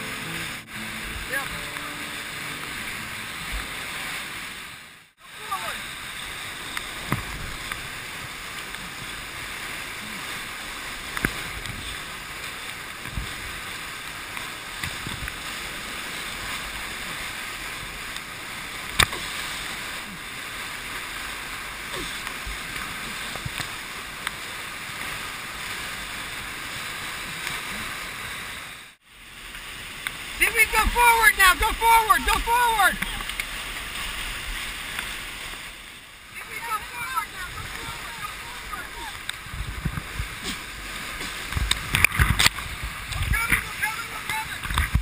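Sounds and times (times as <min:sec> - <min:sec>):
rapids roaring: 0:00.0 - 0:45.0.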